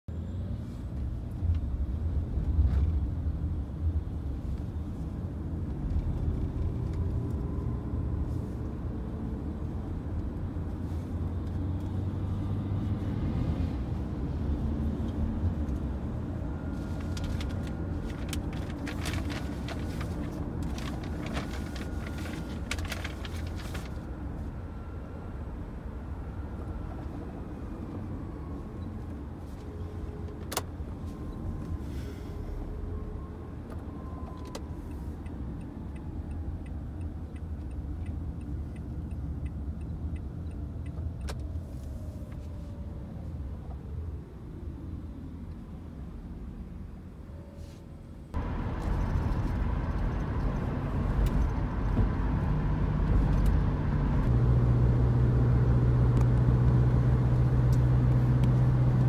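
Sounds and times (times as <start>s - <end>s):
car engine and tyres rumbling: 0.1s - 59.0s.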